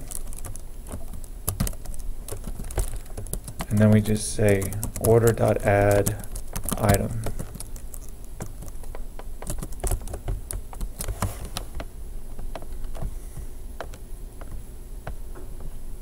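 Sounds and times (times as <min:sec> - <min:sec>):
typing on a computer keyboard: 0:00.0 - 0:13.1.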